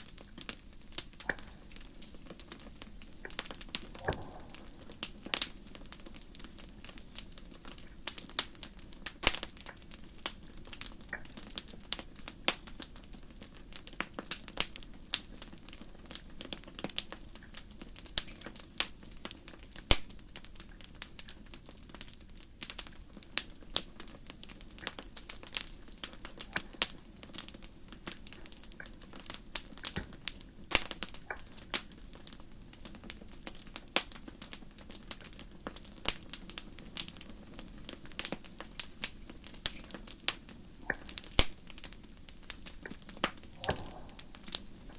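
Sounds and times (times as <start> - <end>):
fire crackling and popping: 0.0 - 44.9
low fire rumble: 0.0 - 44.9.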